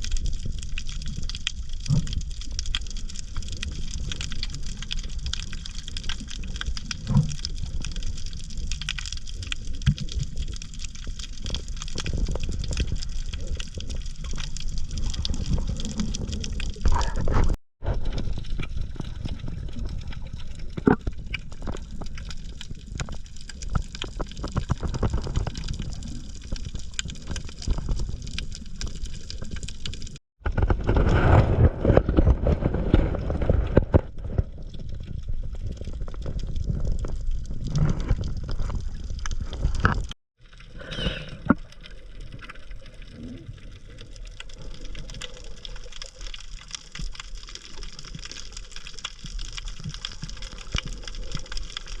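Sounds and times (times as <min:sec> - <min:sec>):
water sloshing and gurgling: 0:00.0 - 0:52.0.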